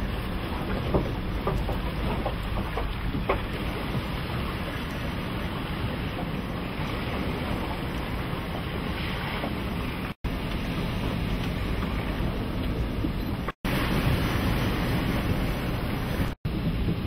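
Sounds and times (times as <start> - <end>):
sea noise: 0.0 - 17.0
wind: 0.0 - 17.0.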